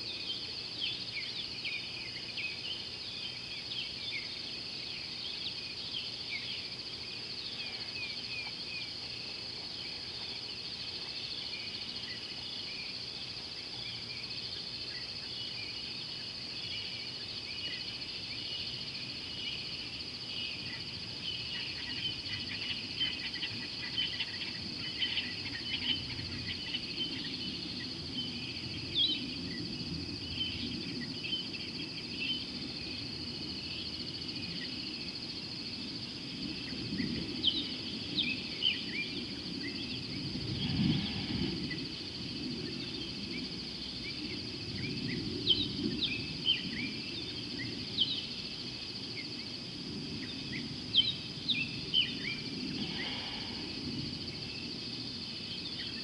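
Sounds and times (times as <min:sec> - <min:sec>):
insect chirps: 0:00.0 - 0:56.0
insects droning: 0:00.0 - 0:56.0.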